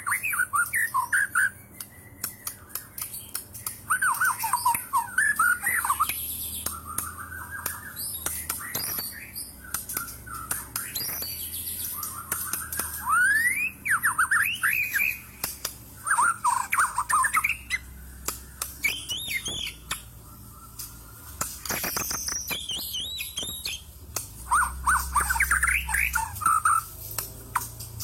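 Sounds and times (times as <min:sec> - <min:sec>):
bird whistling song: 0:00.0 - 0:28.0
harsh clicking bird chatter: 0:00.0 - 0:28.0.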